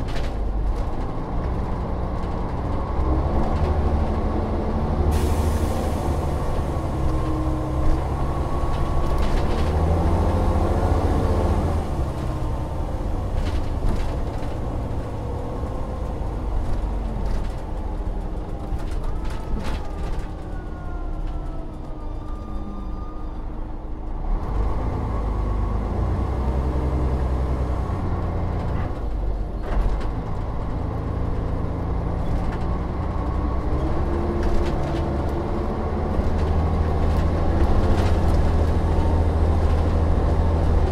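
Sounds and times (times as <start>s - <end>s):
bus engine pulling: 0.0s - 40.9s.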